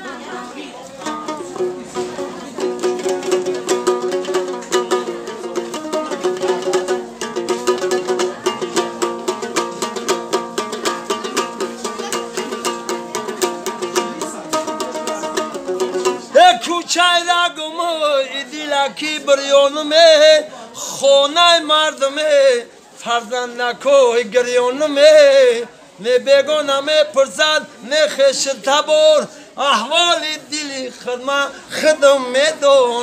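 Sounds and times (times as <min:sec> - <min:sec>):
plucked lute melody: 0:00.0 - 0:33.0
man singing: 0:01.0 - 0:10.2, 0:13.6 - 0:33.0.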